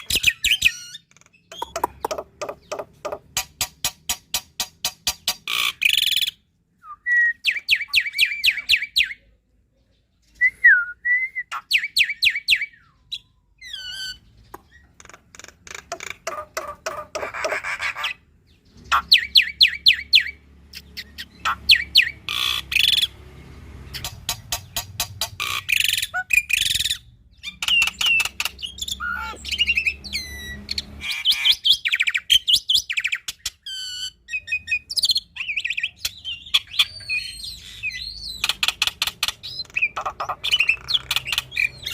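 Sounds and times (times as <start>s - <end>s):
starling singing: 0.0s - 9.3s, 11.4s - 41.9s.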